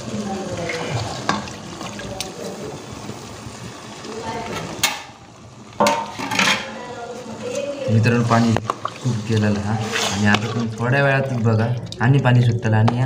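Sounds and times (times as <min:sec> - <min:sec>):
food simmering in a pot: 0:00.0 - 0:13.0.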